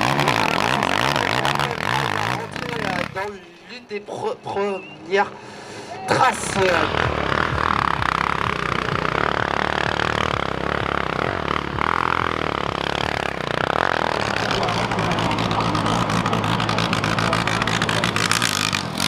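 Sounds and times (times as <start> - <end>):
motorcycle engine at high revs: 0.0 - 3.8, 6.1 - 19.0.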